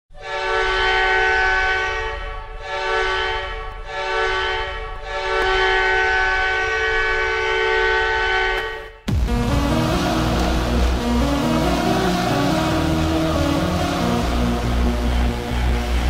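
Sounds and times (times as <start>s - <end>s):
goal air horn blasts: 0.2s - 16.0s.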